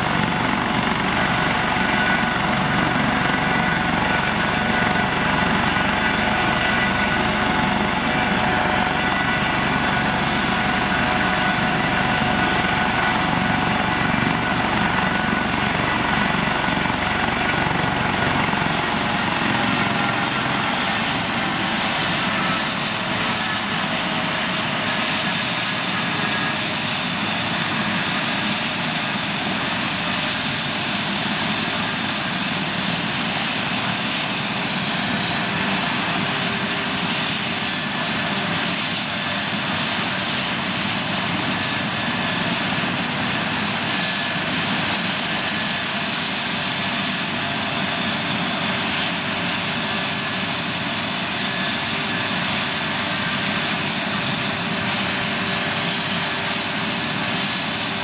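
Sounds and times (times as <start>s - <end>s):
helicopter turbine whine: 0.0s - 58.0s.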